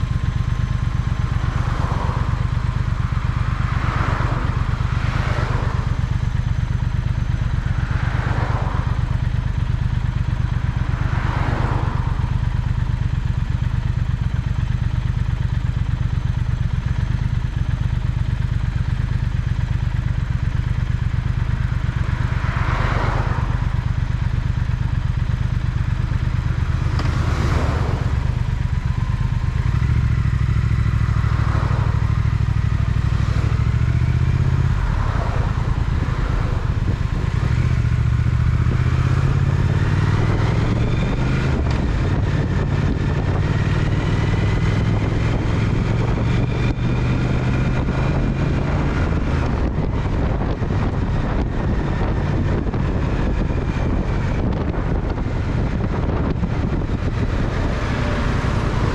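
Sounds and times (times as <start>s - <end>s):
motorcycle engine running: 0.0s - 58.9s
vehicles whooshing past: 0.6s - 14.0s, 19.7s - 58.9s.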